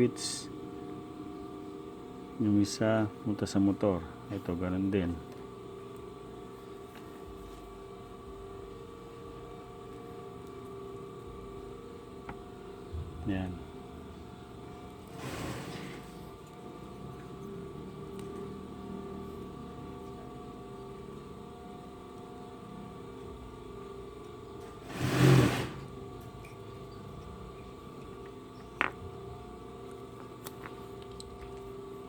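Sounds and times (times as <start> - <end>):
machine-like hum: 0.0 - 32.0.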